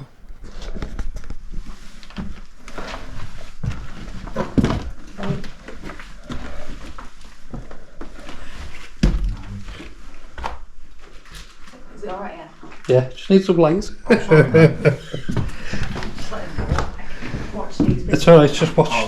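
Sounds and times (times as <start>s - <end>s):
footsteps: 0.0s - 12.9s, 14.8s - 19.0s.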